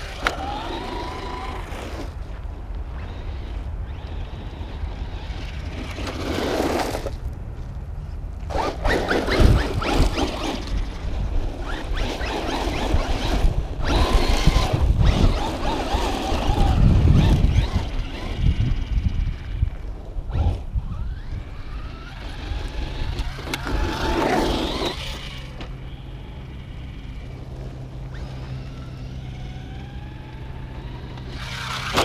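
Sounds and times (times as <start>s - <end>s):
electric motor whine: 0.0s - 6.3s, 8.5s - 32.0s
tyres scrabbling on dirt: 0.0s - 7.8s, 8.4s - 32.0s
wind rumbling on microphone: 0.0s - 32.0s.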